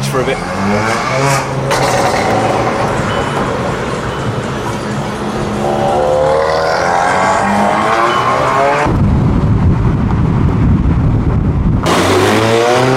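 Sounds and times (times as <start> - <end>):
car engine and road noise: 0.0 - 12.9
engine note rising: 0.0 - 12.9.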